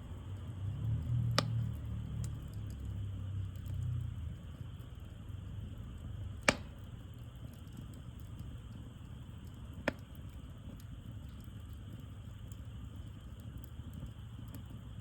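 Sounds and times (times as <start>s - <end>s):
burning wood popping: 0.0s - 15.0s
campfire burning: 0.0s - 15.0s.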